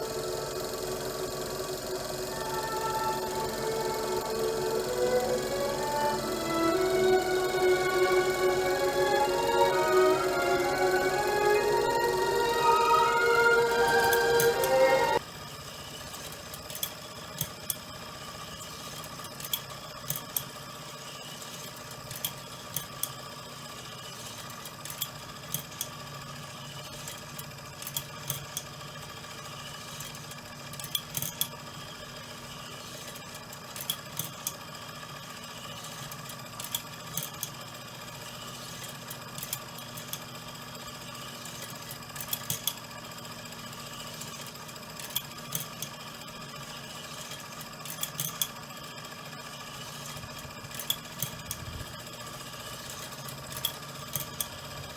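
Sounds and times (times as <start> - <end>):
model engine mechanical hum: 0.0 - 54.9.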